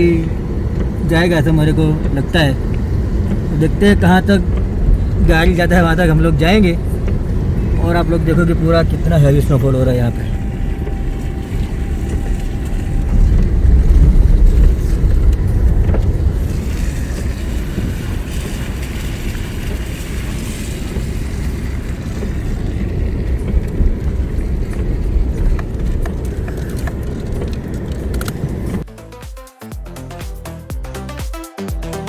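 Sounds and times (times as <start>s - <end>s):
car engine and road noise: 0.0s - 29.2s.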